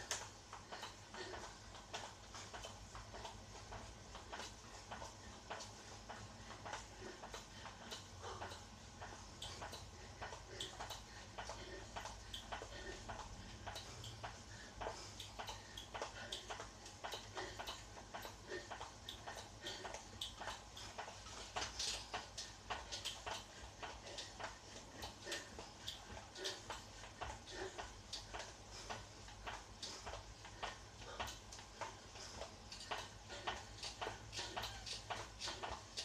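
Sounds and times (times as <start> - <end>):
spin bike clicking and knocking: 0.0 - 36.0.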